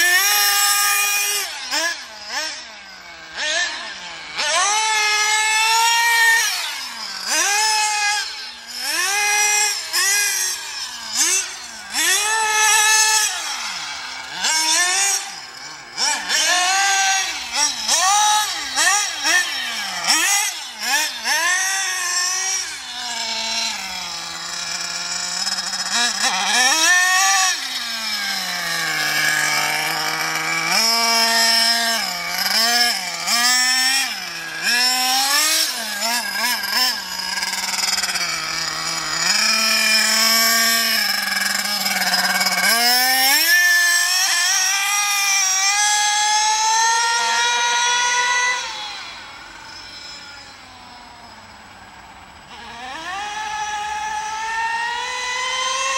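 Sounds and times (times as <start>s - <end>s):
rc car engine revving: 0.0s - 55.9s.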